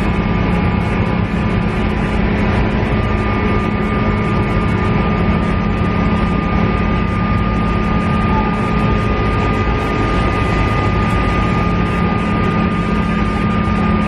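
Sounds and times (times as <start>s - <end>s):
diesel railcar engine drone: 0.0s - 14.0s
thin high whine: 0.0s - 14.0s
wheels running on rails: 0.0s - 14.0s.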